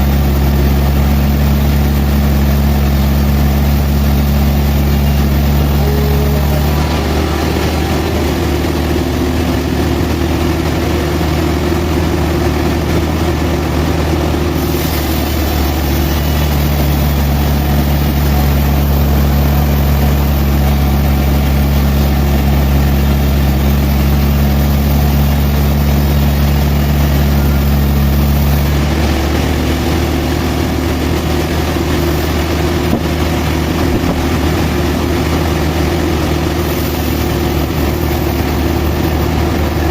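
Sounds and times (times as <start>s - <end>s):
sawmill engine deep hum: 0.0s - 39.9s.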